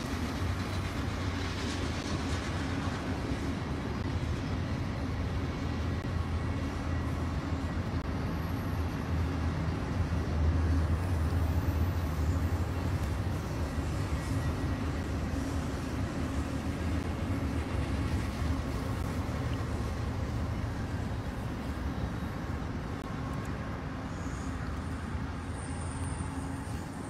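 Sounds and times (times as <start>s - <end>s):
distant freight train rumble: 0.0s - 27.0s.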